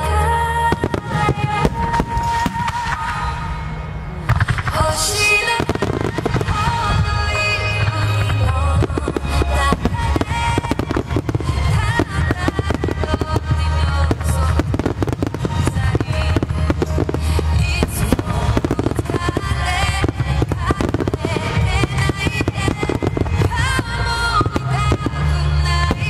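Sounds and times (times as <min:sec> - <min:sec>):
deep rumble: 0:00.0 - 0:26.0
music: 0:00.0 - 0:26.0
fireworks bursting and crackling: 0:00.6 - 0:26.0.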